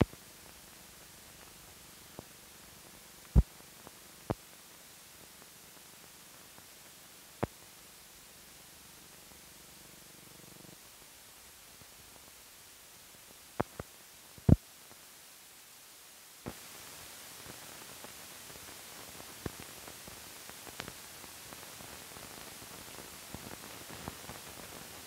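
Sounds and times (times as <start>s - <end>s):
film soundtrack hiss: 0.0s - 25.0s.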